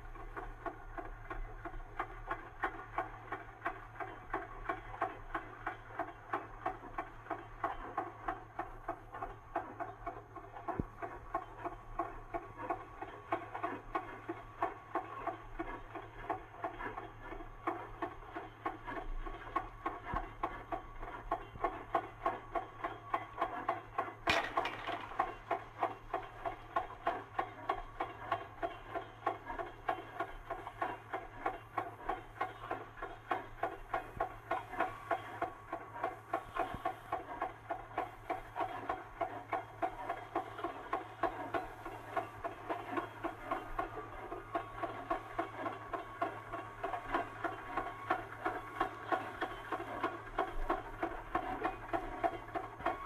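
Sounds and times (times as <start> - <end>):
steam train chuffing beats: 0.0 - 24.2, 25.5 - 53.0.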